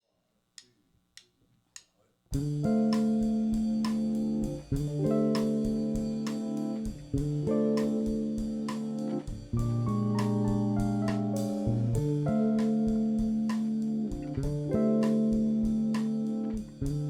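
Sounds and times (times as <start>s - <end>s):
live rock band playing: 2.4s - 17.0s.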